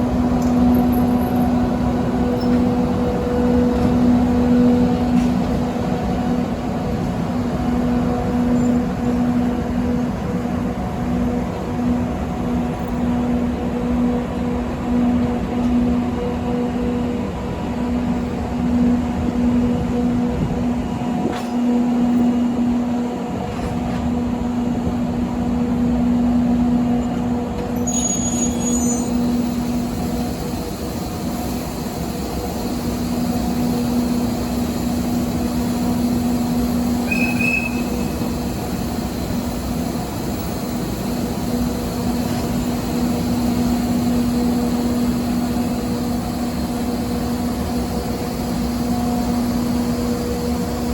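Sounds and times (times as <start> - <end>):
train rolling with steady hum: 0.0 - 50.9.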